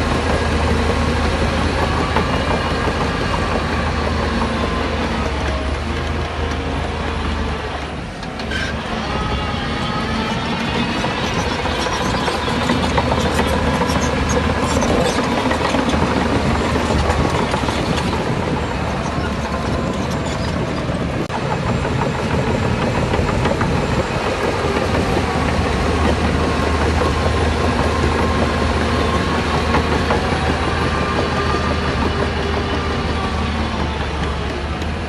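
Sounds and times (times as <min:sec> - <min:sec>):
heavy machinery diesel engine: 0:00.0 - 0:35.0.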